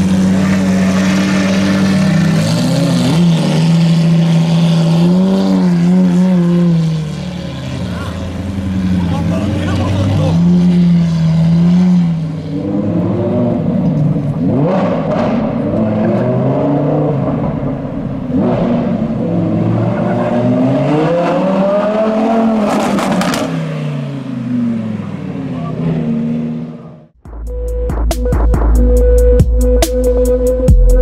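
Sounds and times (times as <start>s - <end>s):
supercar engines revving: 0.0s - 27.2s.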